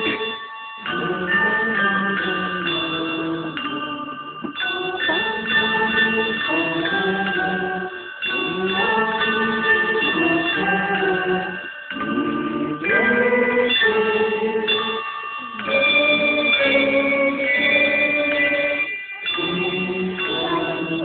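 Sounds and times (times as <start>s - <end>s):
handbell ensemble ringing chords: 0.0s - 21.0s
voices singing: 0.0s - 21.0s.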